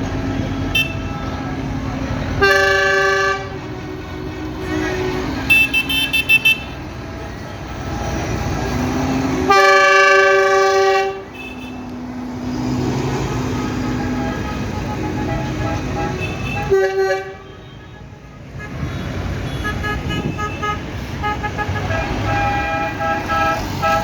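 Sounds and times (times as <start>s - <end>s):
tractor engines running: 0.0s - 24.0s
vehicle horns tooting: 0.2s - 12.0s, 12.8s - 24.0s.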